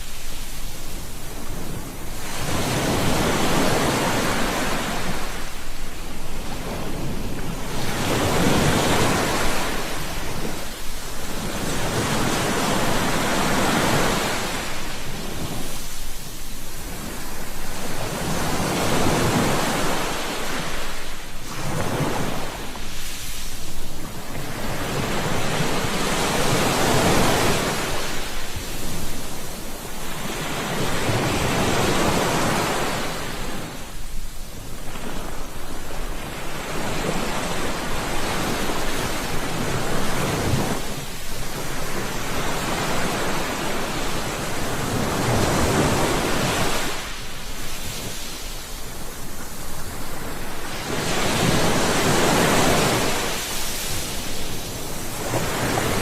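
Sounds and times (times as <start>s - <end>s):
sea surf washing onto shore: 0.0s - 56.0s.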